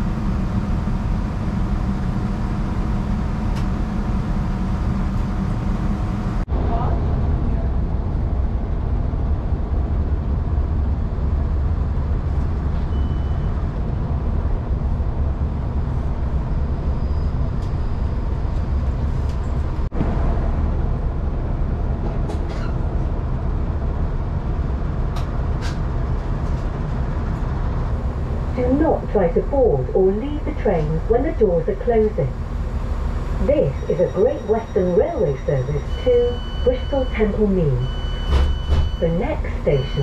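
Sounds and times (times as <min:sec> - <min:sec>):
train interior rumble: 0:00.0 - 0:40.0.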